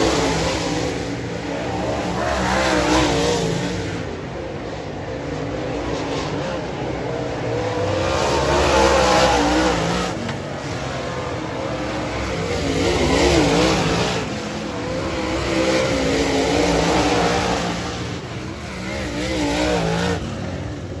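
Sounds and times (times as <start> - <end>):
race car engines running hard: 0.0 - 21.0.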